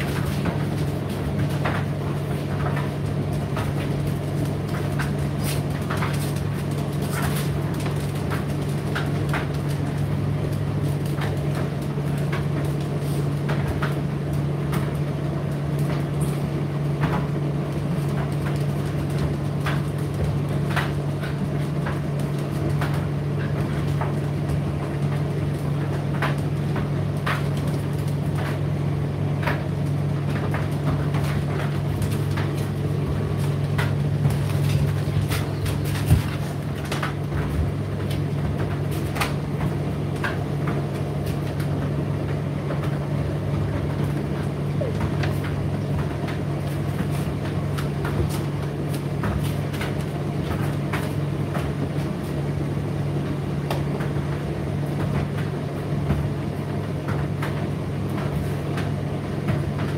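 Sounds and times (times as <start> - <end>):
tumble dryer motor hum: 0.0 - 59.9.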